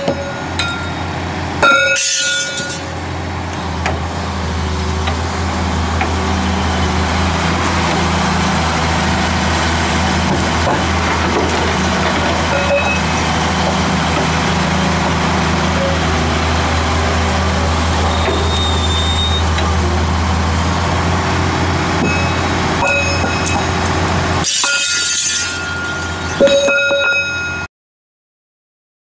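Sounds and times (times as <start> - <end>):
diesel engine drone: 0.0 - 27.7.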